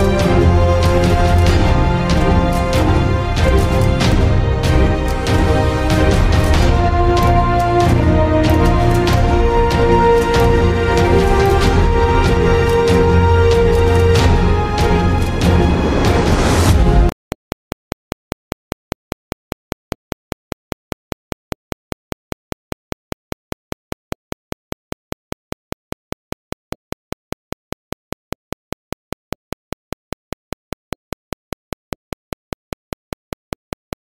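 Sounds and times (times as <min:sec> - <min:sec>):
rapid sharp clicks: 0:00.0 - 0:16.3, 0:17.4 - 0:34.0.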